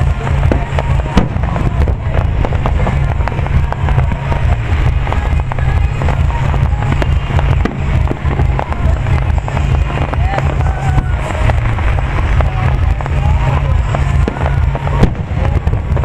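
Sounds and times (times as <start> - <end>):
deep rumble: 0.0 - 16.0
fireworks bangs and crackles: 0.0 - 16.0
music playing: 0.0 - 16.0.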